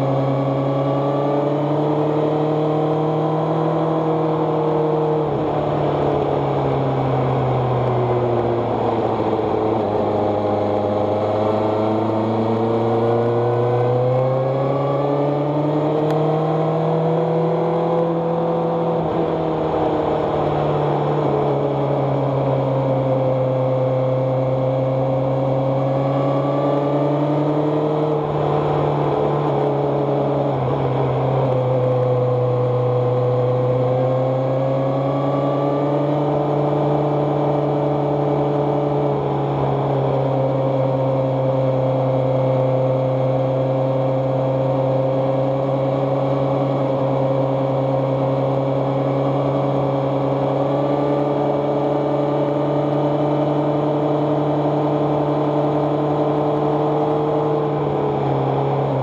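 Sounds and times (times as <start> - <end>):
engine running with changing revs: 0.0 - 59.0.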